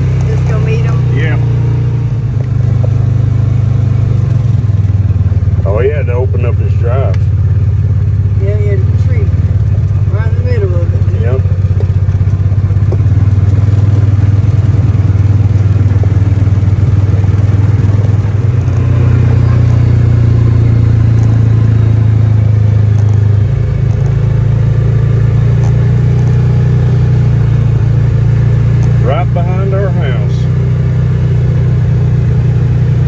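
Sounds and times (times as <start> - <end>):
utility vehicle engine running: 0.0 - 33.0.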